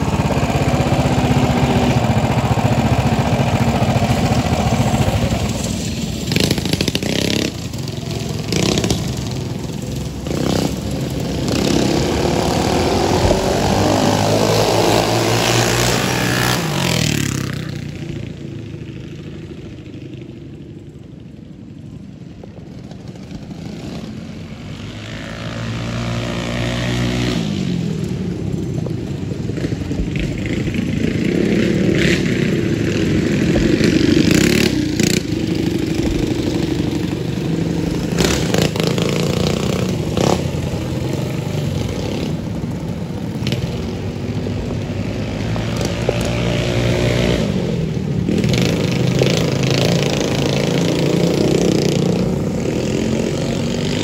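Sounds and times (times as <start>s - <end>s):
mini bike engines revving: 0.0s - 54.0s.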